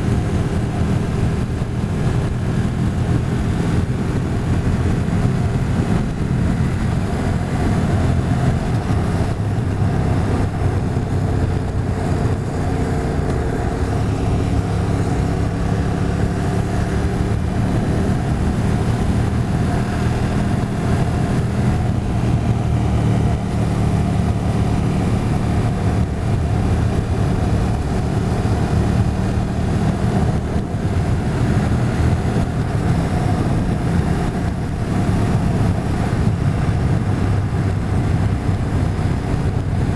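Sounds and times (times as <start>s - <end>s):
motorcycle engine running: 0.0s - 39.9s
rushing noise: 0.0s - 39.9s.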